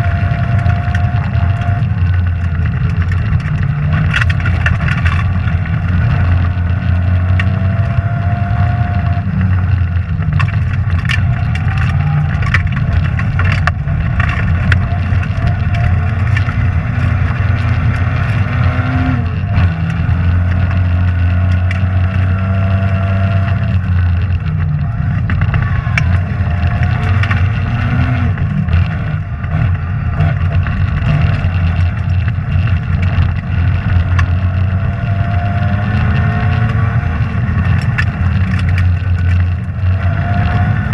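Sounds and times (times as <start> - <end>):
clicks and rattles: 0.0 - 40.9
rally car engine revving: 0.0 - 40.9.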